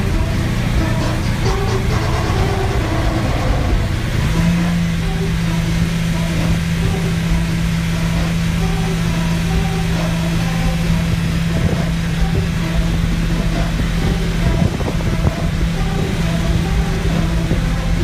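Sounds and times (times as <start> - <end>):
short repeating high music notes: 0.0 - 18.0
steady low tone: 0.0 - 18.0.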